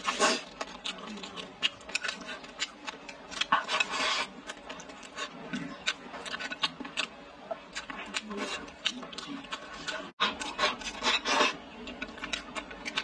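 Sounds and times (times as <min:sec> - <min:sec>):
chopsticks scraping rice in bowl: 0:00.0 - 0:06.7, 0:07.8 - 0:13.0
chewing with wet mouth clicks: 0:00.0 - 0:13.0.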